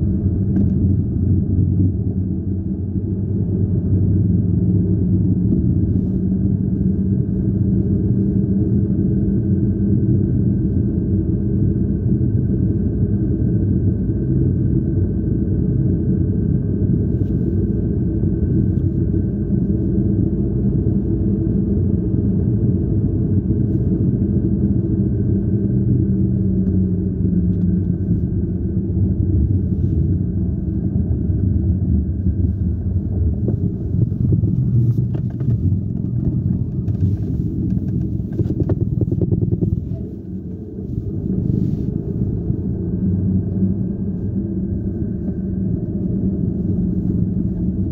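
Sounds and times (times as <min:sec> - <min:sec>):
car engine and tyre noise: 0:00.0 - 0:47.9.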